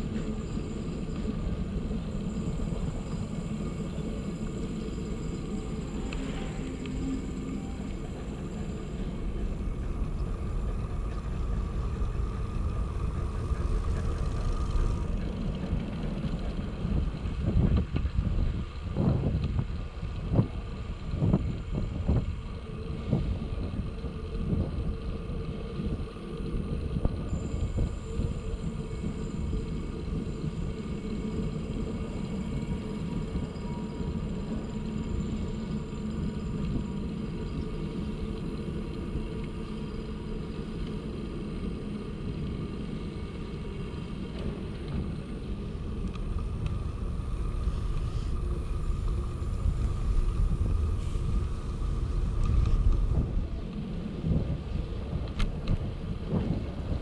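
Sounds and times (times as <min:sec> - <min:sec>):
bicycle rolling on pavement: 0:00.0 - 0:57.0.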